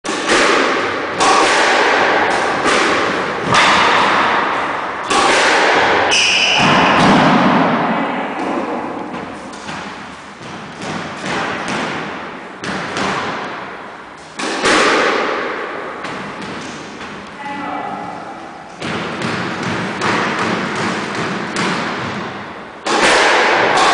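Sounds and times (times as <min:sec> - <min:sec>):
squash ball hits: 0:00.1 - 0:17.3, 0:18.7 - 0:23.9.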